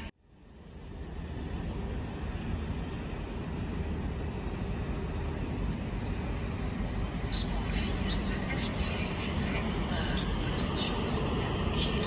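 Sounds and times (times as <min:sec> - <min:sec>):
distant train rumble: 0:00.0 - 0:12.0.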